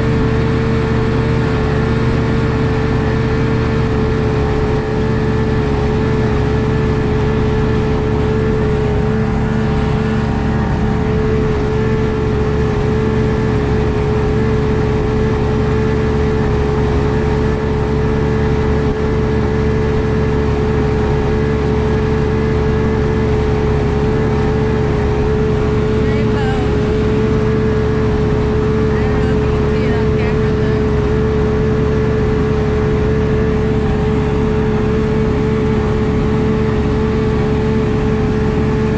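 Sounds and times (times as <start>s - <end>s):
outboard motor droning: 0.0s - 38.9s.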